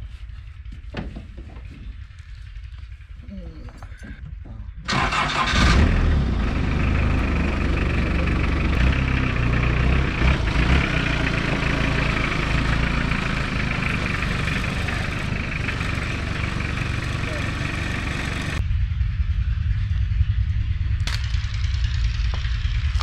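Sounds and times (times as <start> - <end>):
jeep engine running: 0.0 - 23.0.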